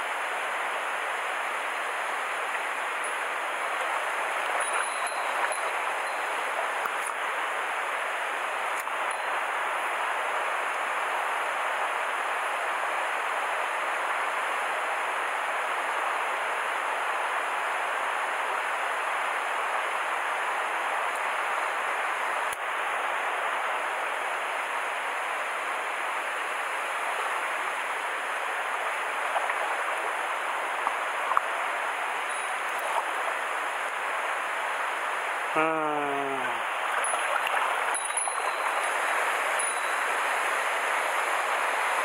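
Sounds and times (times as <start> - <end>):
mountain stream rushing: 0.0 - 42.0.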